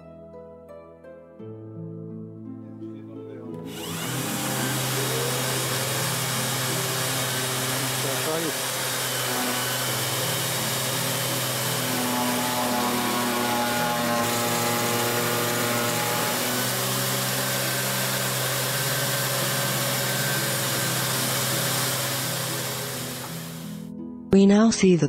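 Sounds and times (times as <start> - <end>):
sander motor hum: 3.6 - 23.9
dust extraction hiss: 3.7 - 23.8.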